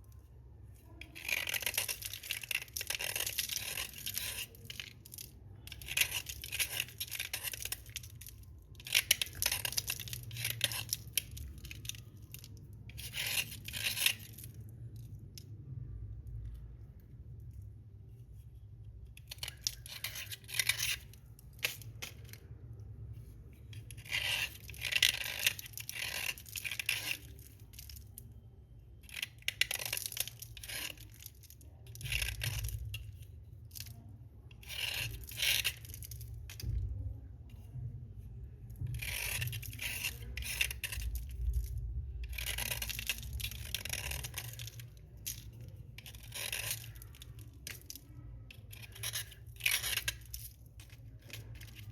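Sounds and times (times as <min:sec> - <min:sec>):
slate pencils crunching and grating: 0:01.0 - 0:15.4, 0:19.2 - 0:36.7, 0:38.7 - 0:51.9.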